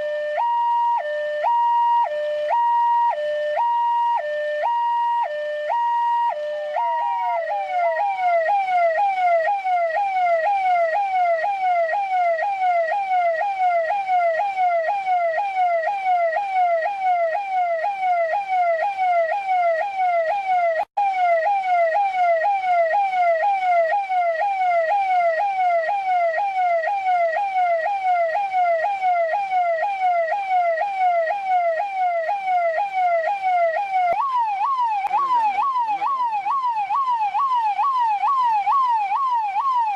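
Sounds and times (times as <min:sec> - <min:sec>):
police siren yelp: 0:00.0 - 0:39.9.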